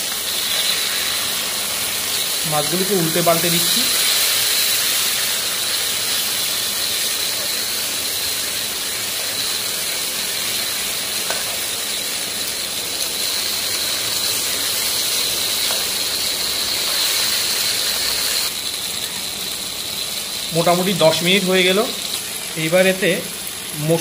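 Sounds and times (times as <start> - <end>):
fish and onions sizzling in oil: 0.0 - 24.0.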